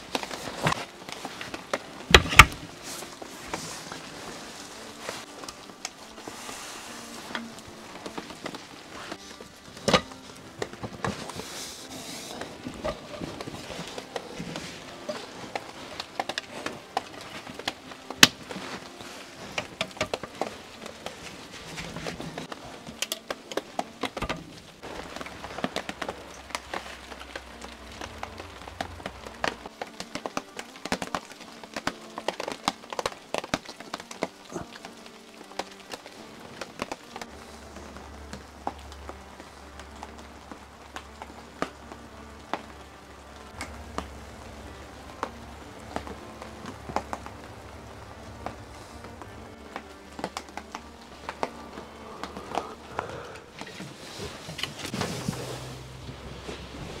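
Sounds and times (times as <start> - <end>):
rain tapping on awning: 0.0 - 57.0.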